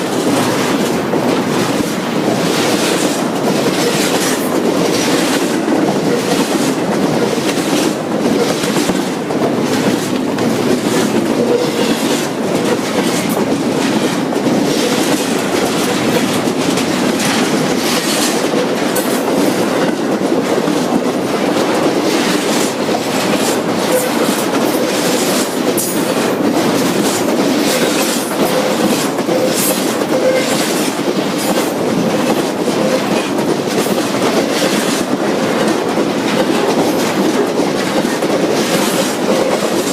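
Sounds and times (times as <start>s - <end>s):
train cars rumbling: 0.0s - 39.9s
wheels clicking over rail joints: 0.0s - 39.9s.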